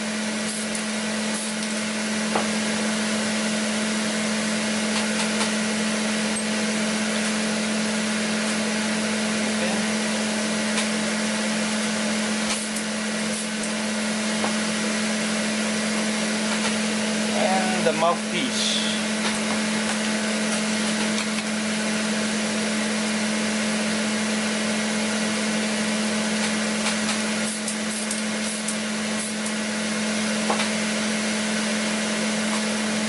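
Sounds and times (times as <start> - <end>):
exhaust fan running: 0.0 - 33.0.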